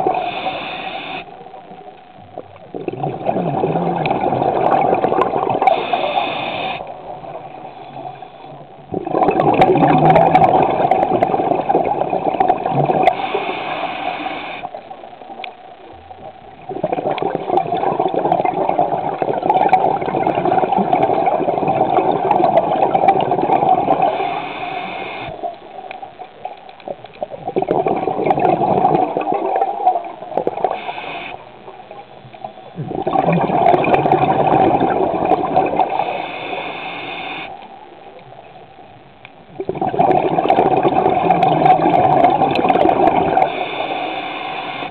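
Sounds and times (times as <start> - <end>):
water churning underwater: 0.0 - 44.9.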